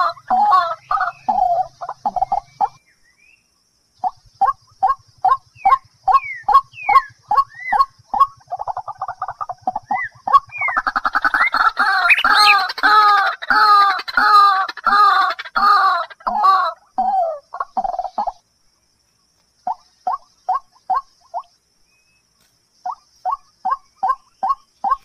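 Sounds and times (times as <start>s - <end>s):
bird calling: 0.0s - 25.0s.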